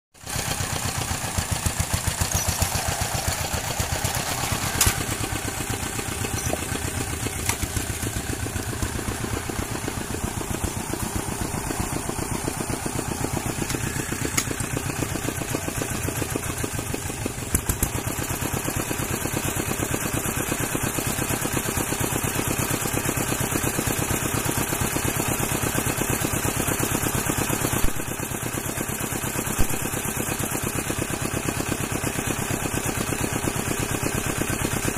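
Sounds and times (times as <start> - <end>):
engine running steadily: 0.2 - 34.9.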